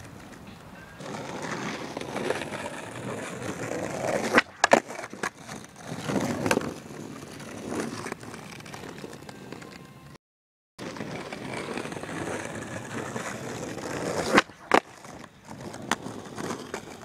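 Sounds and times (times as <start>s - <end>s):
skateboard clacks: 0.0s - 9.9s, 10.8s - 17.0s
skateboard wheels rolling on asphalt: 0.0s - 10.2s, 10.8s - 17.0s.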